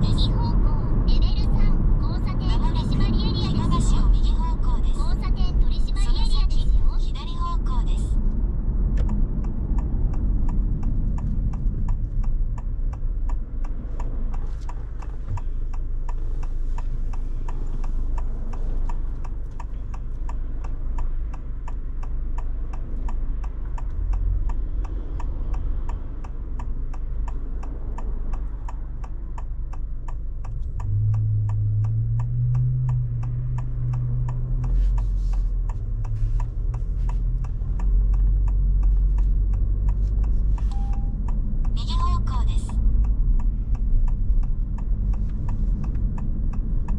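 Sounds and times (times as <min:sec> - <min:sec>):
low rumble of car: 0:00.0 - 0:46.9
turn signal ticking: 0:00.0 - 0:46.9.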